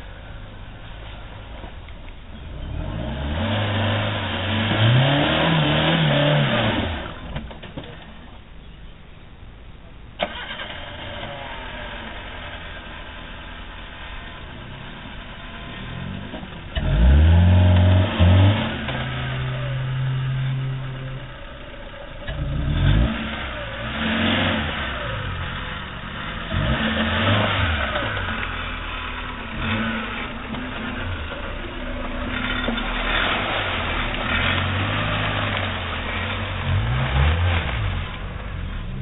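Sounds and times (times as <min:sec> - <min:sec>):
off-road vehicle engine revving: 0:00.0 - 0:08.0, 0:10.2 - 0:39.0.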